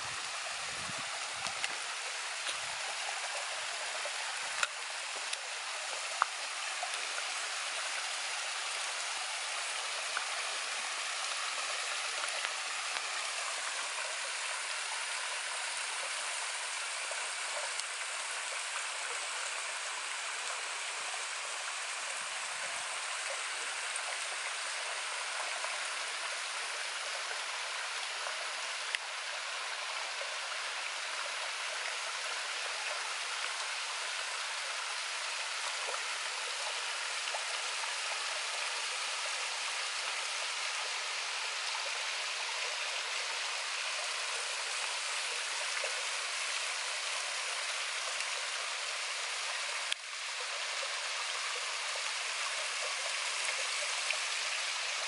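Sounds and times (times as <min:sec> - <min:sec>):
small waterfall trickling into pool: 0:00.0 - 0:55.0.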